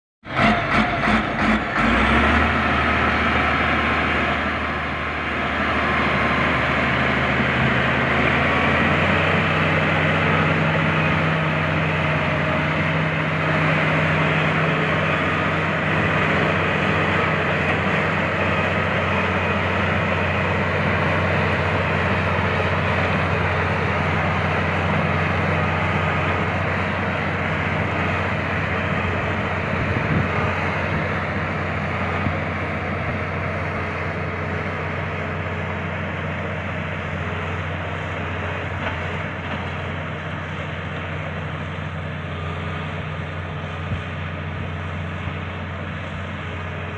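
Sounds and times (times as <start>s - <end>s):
bulldozer diesel engine under load: 0.2s - 46.9s.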